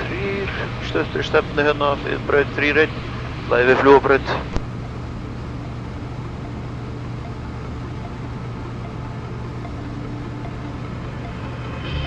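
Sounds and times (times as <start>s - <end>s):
ultralight aircraft engine drone: 0.0s - 12.0s.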